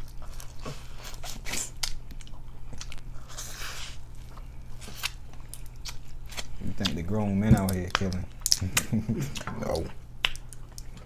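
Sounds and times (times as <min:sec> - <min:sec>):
close-up eating and chewing: 0:00.0 - 0:11.0
low steady hum: 0:00.0 - 0:11.0.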